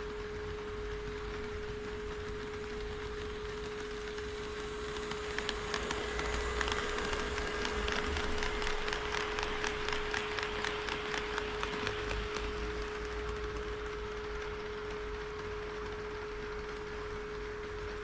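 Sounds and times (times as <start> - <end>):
model train wheels clicking on rails: 0.0 - 18.0
steady high hum: 0.0 - 18.0.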